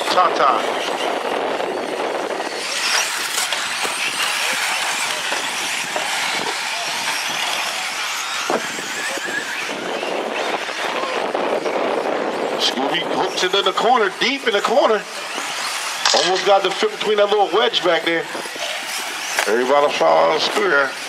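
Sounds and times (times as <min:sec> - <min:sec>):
rc truck motors whining: 0:00.0 - 0:21.0.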